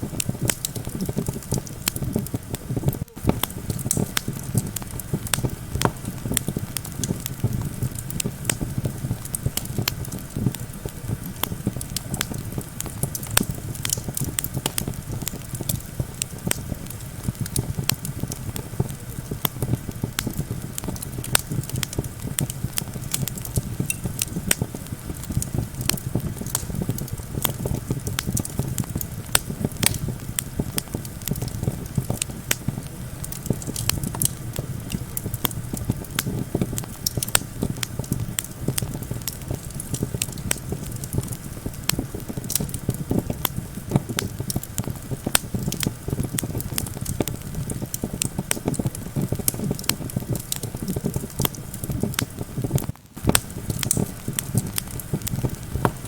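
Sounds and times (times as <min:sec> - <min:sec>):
campfire crackling: 0:00.0 - 0:56.0
low rumble of wind: 0:00.0 - 0:56.0.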